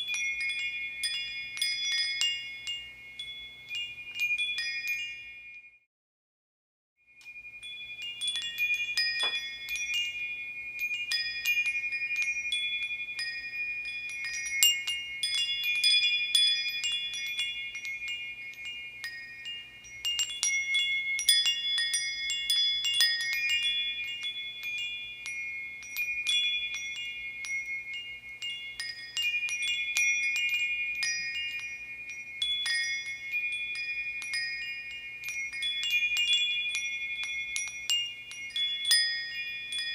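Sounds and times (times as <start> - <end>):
metal wind chimes jangling: 0.0 - 5.8, 7.1 - 39.9.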